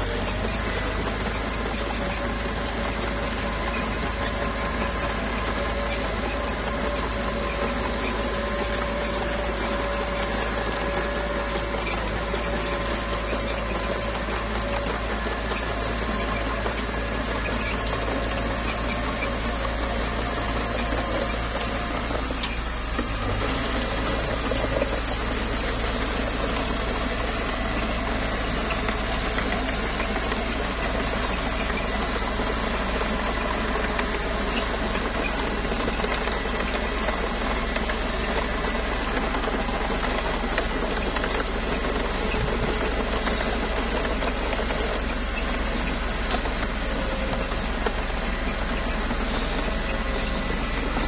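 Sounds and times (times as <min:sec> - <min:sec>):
bulldozer engine running: 0:00.0 - 0:51.0.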